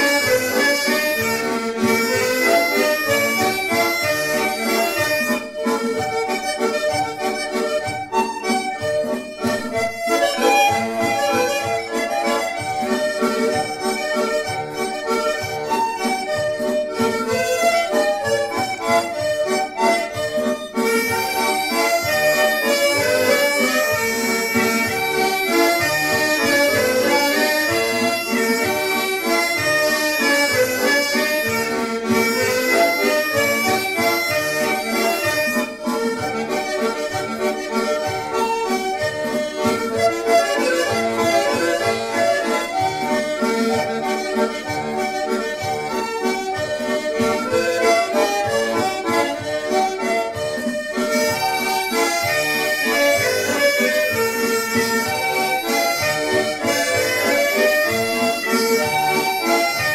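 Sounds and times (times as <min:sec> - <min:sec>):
instrumental background music: 0:00.0 - 0:59.9.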